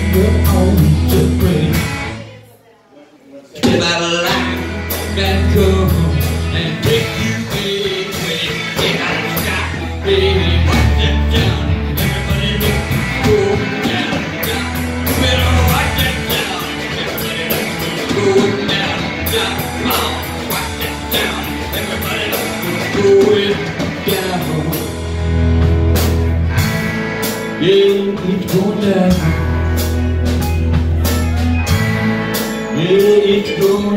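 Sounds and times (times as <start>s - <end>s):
live rock band playing: 0.0s - 2.5s, 3.6s - 33.9s.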